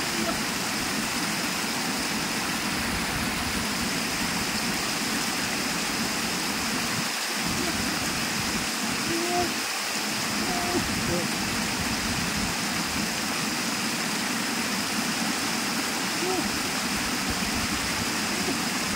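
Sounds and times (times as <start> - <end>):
water rushing down spillway: 0.0 - 18.9.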